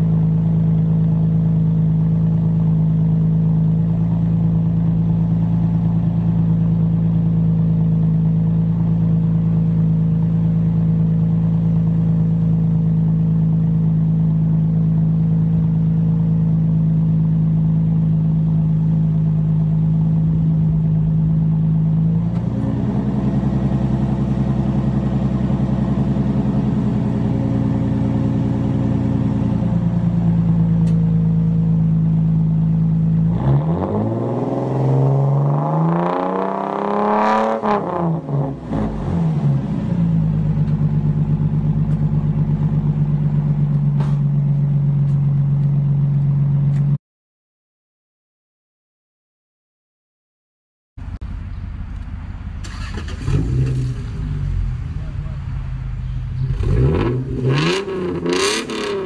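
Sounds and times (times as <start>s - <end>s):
car engine idling and revving: 0.0s - 47.0s, 51.0s - 59.0s.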